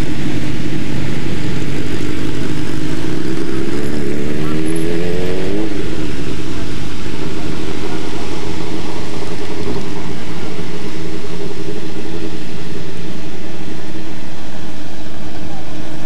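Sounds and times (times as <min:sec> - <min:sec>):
rally car engine drone: 0:00.0 - 0:16.0.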